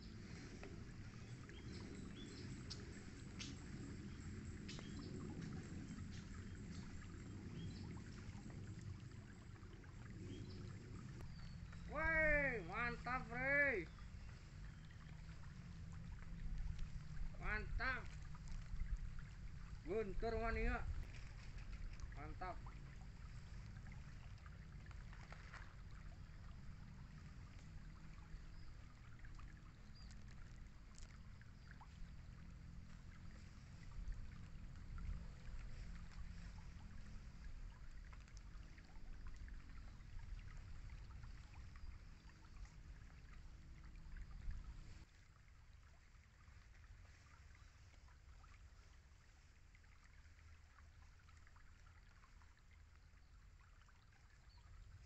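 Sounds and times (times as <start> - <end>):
water trickling and dripping: 0.0 - 55.0.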